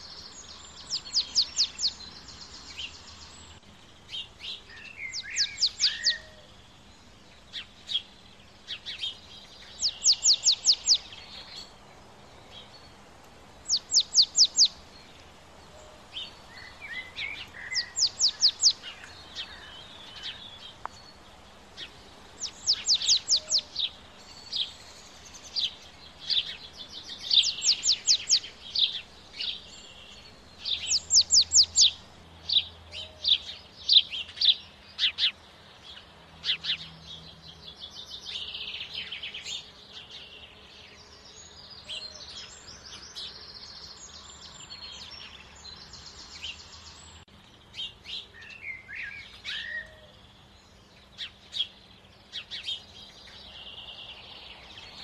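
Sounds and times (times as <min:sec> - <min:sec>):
bird chirps and twitters: 0:00.0 - 0:03.3, 0:04.1 - 0:06.6, 0:07.4 - 0:13.0, 0:13.6 - 0:15.2, 0:16.2 - 0:21.2, 0:21.8 - 0:55.0.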